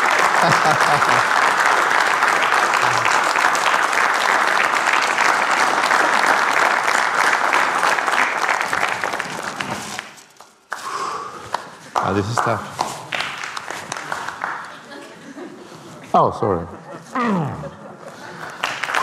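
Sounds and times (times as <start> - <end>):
audience applauding: 0.0 - 15.3, 18.0 - 19.0.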